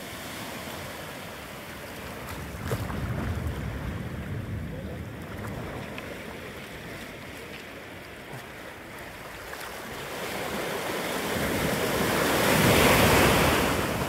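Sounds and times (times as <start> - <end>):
sea waves washing on beach: 0.0 - 14.0
wave breaking: 0.0 - 14.0.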